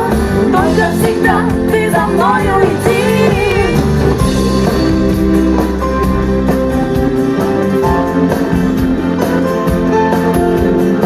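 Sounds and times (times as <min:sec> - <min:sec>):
live rock band instrumental: 0:00.0 - 0:11.0.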